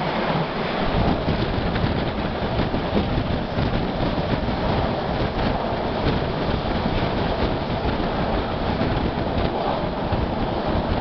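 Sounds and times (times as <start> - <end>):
train wheels rumbling on rails: 0.0 - 11.0
wind rushing at microphone: 0.0 - 11.0.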